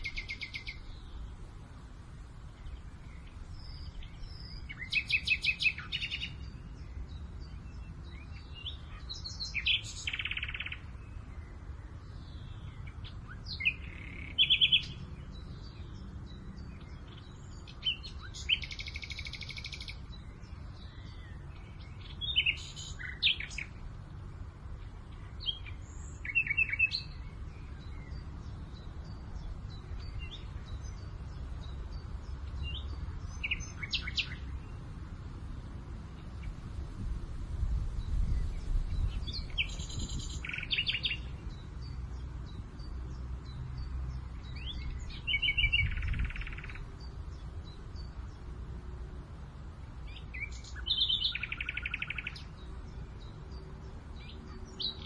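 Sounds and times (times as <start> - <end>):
low rumble of breeze: 0.0 - 55.0
songbirds chirping: 0.0 - 55.0.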